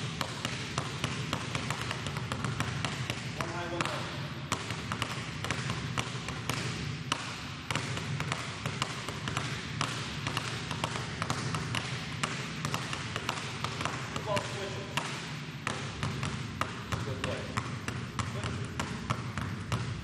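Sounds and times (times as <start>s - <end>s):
basketballs bouncing on wooden floor: 0.0s - 20.0s.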